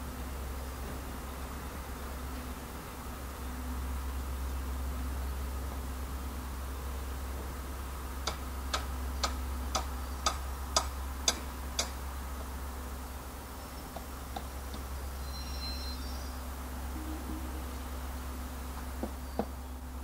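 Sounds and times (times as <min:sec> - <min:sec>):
locomotive engines droning: 0:00.0 - 0:20.0.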